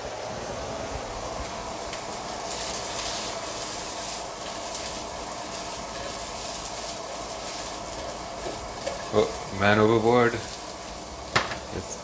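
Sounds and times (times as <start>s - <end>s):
potatoes sizzling in a frying pan: 1.2s - 12.0s.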